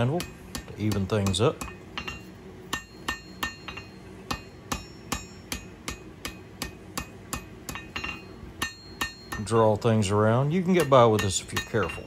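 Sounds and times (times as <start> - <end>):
hammer striking steel on anvil: 0.0 - 12.0.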